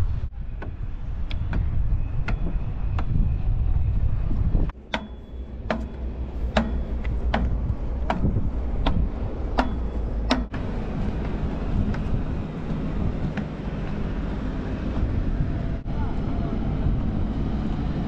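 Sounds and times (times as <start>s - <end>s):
wind rumbling on microphone: 0.0s - 4.8s, 5.5s - 18.0s.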